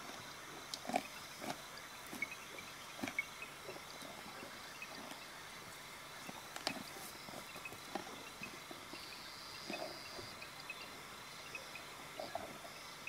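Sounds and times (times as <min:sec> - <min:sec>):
faint high steady tone: 0:01.8 - 0:13.0.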